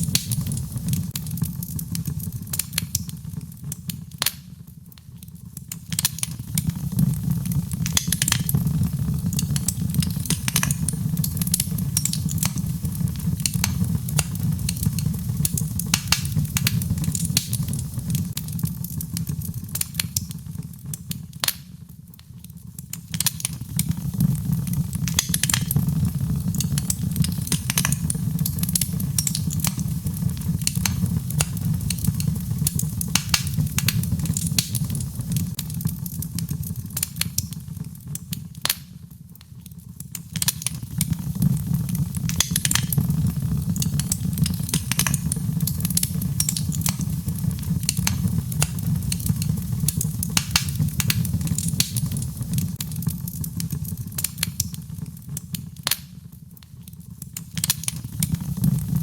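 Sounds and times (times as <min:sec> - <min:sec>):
fire rumbling: 0:00.0 - 0:56.0, 0:56.9 - 0:59.0
fire crackling and popping: 0:00.0 - 0:59.0.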